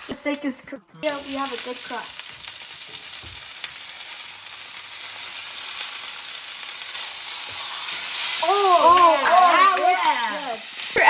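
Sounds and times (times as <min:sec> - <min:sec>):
steaks sizzling in frying pan: 0:01.0 - 0:11.0.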